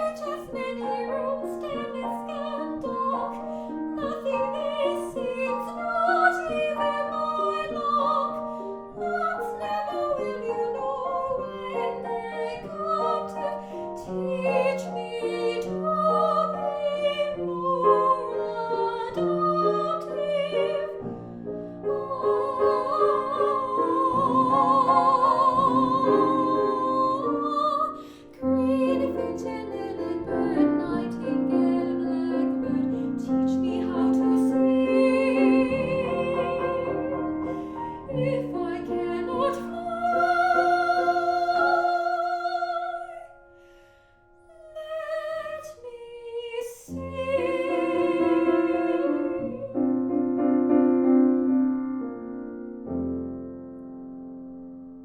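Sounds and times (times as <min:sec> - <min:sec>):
woman singing operatically: 0:00.0 - 0:08.4, 0:09.0 - 0:21.0, 0:22.0 - 0:37.2, 0:38.0 - 0:43.3, 0:44.5 - 0:49.8
piano accompaniment: 0:00.0 - 0:45.6, 0:46.9 - 0:55.0.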